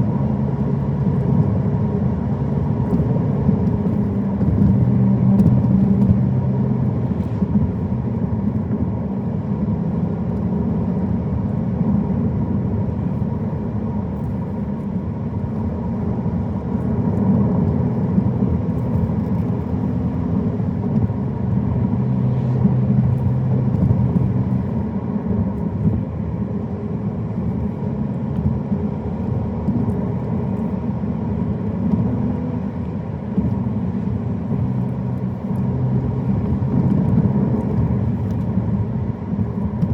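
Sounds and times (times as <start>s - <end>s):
car engine hum: 0.0s - 39.9s
tyre and road noise: 0.0s - 39.9s.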